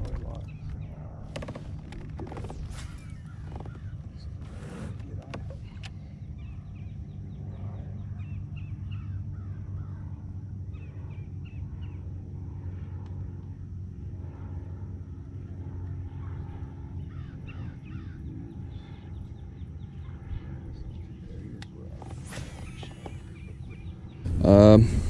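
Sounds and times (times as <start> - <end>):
birds chirping: 0.0 - 12.2, 15.6 - 25.0
steady low hum: 0.0 - 25.0.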